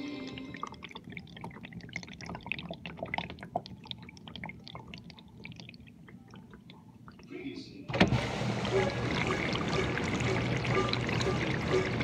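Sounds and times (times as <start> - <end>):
water dripping and splashing: 0.0 - 7.4, 8.2 - 12.0.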